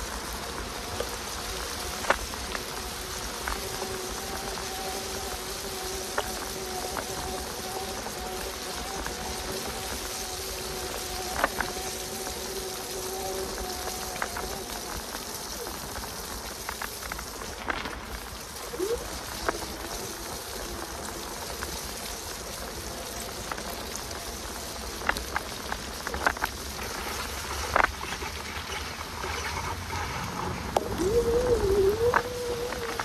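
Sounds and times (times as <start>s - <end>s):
rain hissing: 0.0s - 33.0s
wet tyres on a path: 0.0s - 33.0s.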